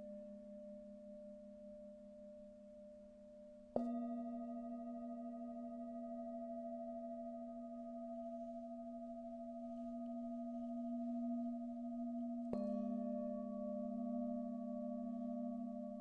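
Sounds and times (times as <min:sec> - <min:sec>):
bowl struck with mallet: 0:00.0 - 0:16.0
singing bowls ringing: 0:00.0 - 0:16.0.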